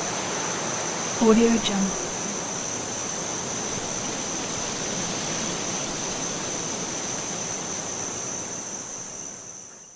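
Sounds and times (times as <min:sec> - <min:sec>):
high-pitched insect drone: 0:00.9 - 0:09.9.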